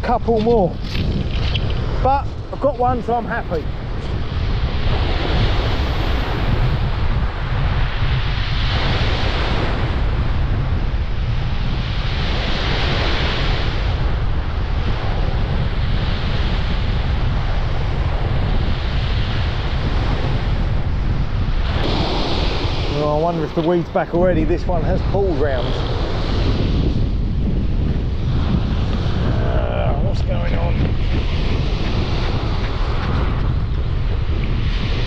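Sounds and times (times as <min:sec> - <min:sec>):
surf breaking on shore: 0:00.0 - 0:35.0
wind buffeting microphone: 0:00.0 - 0:35.0.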